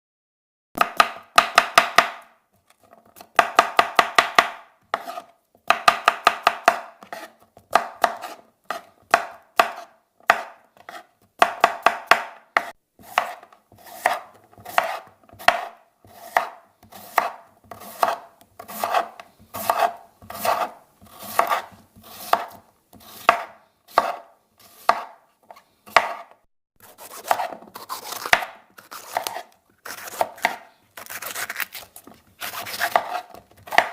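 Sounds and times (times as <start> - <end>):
knife chopping on board: 0.8 - 2.3, 3.2 - 33.9.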